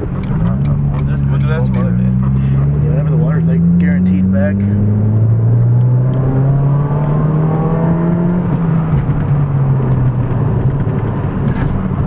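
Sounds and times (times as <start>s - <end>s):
car engine accelerating: 0.0s - 12.0s
road noise: 0.0s - 12.0s.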